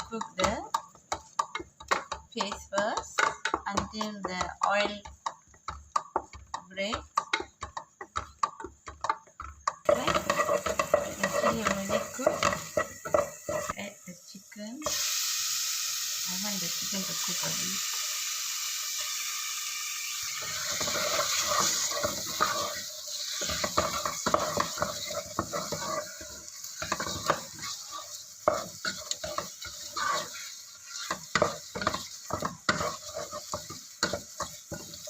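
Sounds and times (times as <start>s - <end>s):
utensil scraping and knocking pan: 0.0s - 13.8s, 20.4s - 35.0s
chicken sizzling in a pan: 0.0s - 35.0s.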